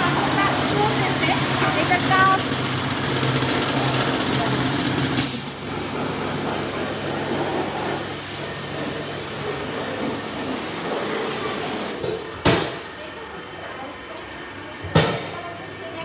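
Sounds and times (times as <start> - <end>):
workshop mechanical din: 0.0 - 13.1, 14.0 - 15.6.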